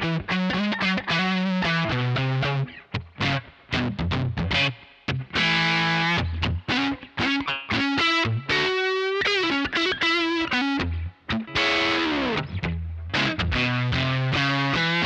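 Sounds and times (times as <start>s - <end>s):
fuzzy electric guitar lead: 0.0s - 15.0s.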